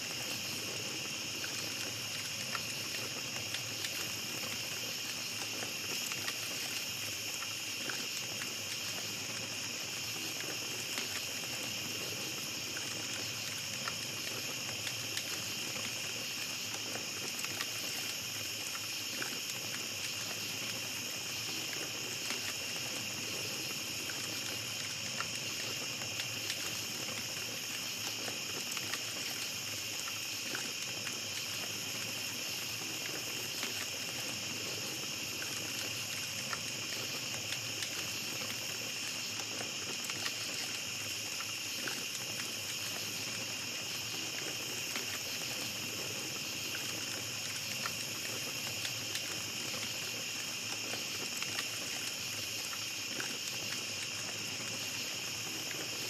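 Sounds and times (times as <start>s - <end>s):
campfire crackling: 0.0s - 56.0s
night insects chirring: 0.0s - 56.0s.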